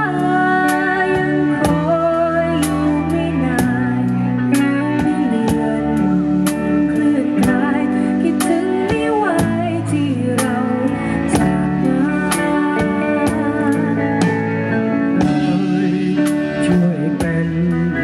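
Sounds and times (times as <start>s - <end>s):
slow band music: 0.0s - 18.0s.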